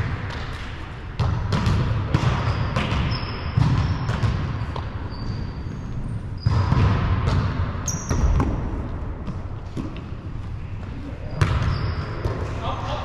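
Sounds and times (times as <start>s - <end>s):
sneakers squeaking on gym floor: 1.2s - 8.7s, 9.3s - 13.0s.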